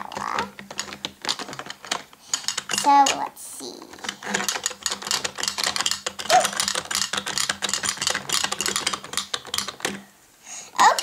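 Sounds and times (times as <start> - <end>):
plastic toy clicking and clattering: 0.0 - 10.1, 10.8 - 11.0.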